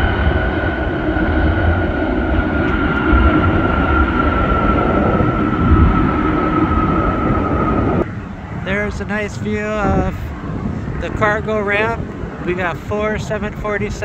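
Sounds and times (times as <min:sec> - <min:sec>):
jet engines rumbling and whining: 0:00.0 - 0:14.0.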